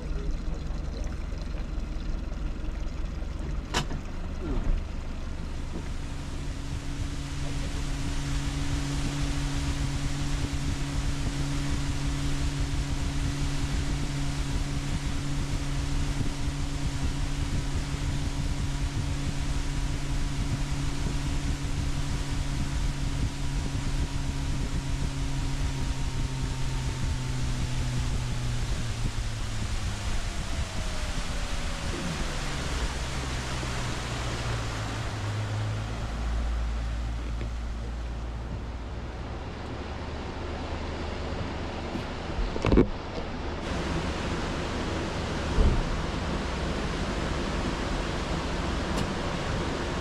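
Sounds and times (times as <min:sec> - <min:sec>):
boat motor running: 0:00.0 - 0:50.0
rushing water: 0:00.0 - 0:50.0
rushing wind: 0:04.8 - 0:50.0.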